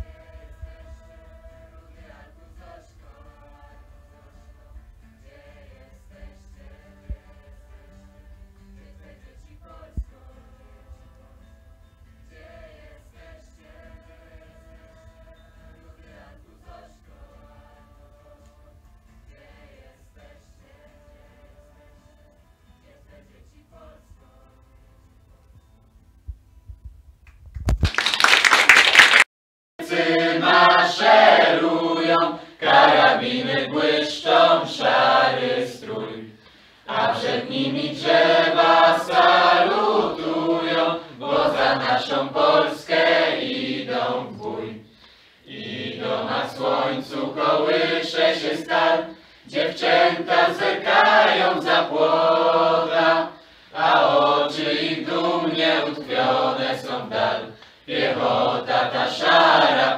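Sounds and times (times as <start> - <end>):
group singing together: 0.0 - 11.5, 12.2 - 24.7, 29.8 - 59.9.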